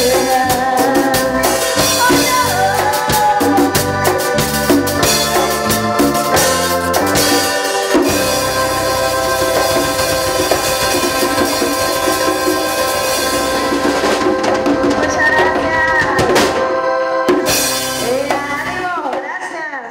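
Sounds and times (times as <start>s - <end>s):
drum rolls and cymbals: 0.0s - 18.9s
band holding a long chord: 0.0s - 19.0s.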